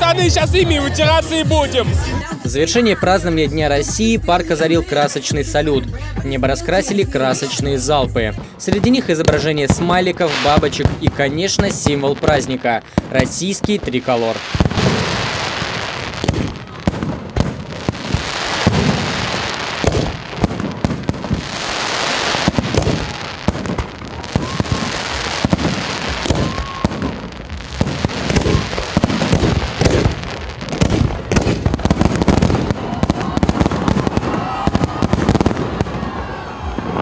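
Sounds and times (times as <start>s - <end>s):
fireworks bursting: 0.0s - 37.0s
fireworks hissing and crackling: 6.4s - 37.0s.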